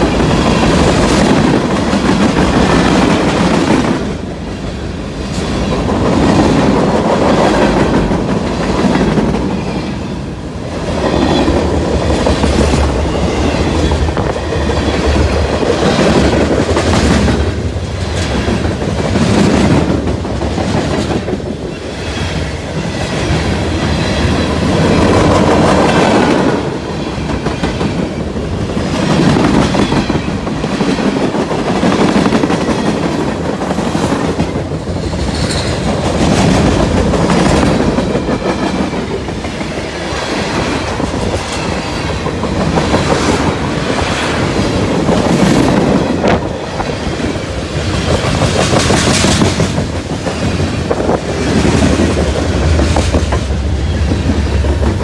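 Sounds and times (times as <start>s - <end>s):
freight train rolling past: 0.0s - 55.0s
wheels clickety-clack on rails: 0.0s - 55.0s.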